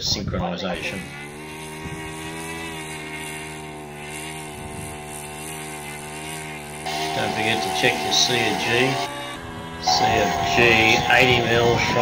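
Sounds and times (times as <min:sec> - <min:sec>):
electric motors whining: 0:00.9 - 0:12.0.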